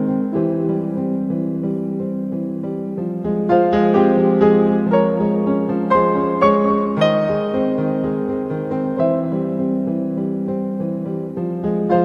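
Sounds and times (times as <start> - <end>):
slow soft piano music: 0.0 - 12.0.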